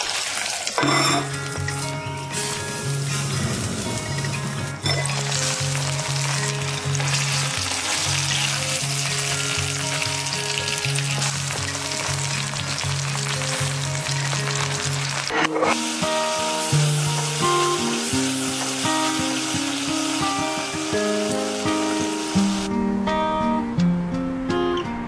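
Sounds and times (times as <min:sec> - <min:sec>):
food sizzling in a pan: 0:00.0 - 0:22.7.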